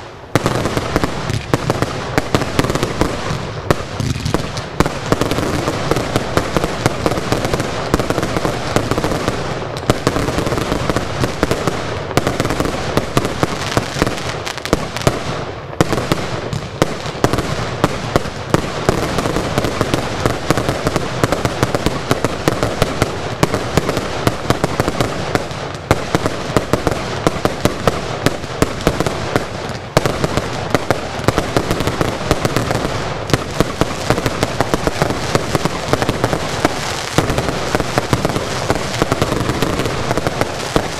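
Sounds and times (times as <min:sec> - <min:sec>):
fireworks barrage: 0:00.0 - 0:40.9
fireworks crackling: 0:00.0 - 0:40.9.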